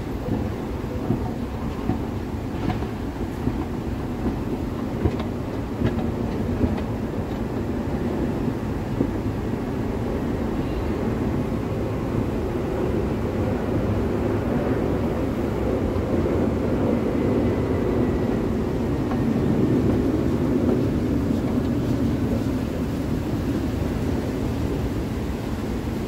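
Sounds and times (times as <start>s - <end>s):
train running on guideway: 0.0s - 26.0s.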